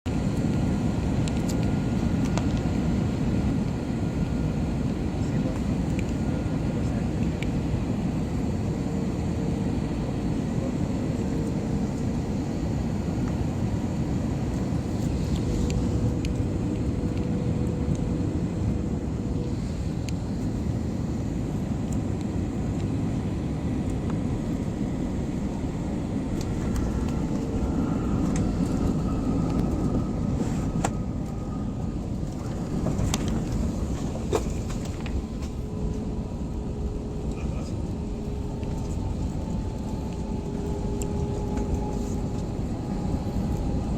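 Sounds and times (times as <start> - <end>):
jet airliner cabin rumble: 0.0 - 43.9.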